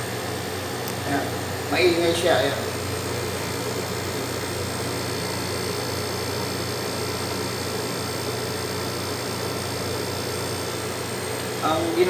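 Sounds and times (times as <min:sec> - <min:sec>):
air conditioner compressor humming: 0:00.0 - 0:12.0.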